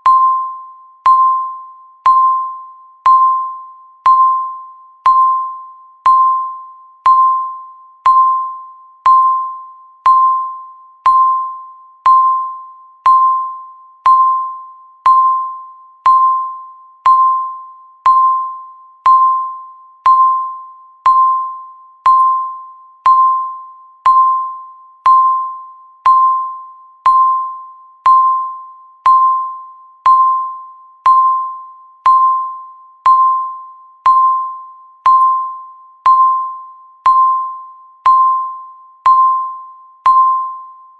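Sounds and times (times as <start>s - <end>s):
countdown timer beeping: 0.0s - 40.8s.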